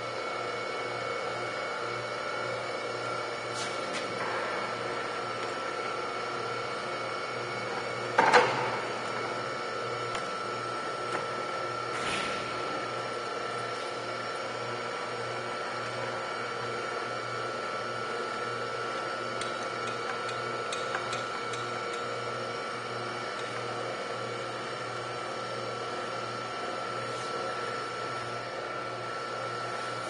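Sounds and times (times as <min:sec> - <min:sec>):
surface grinder humming and whining: 0:00.0 - 0:30.0.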